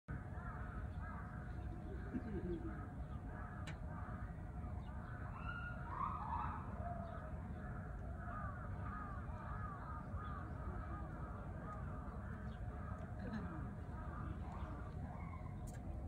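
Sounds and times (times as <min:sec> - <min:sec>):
birds calling: 0:00.2 - 0:16.0
low background noise: 0:00.3 - 0:16.0.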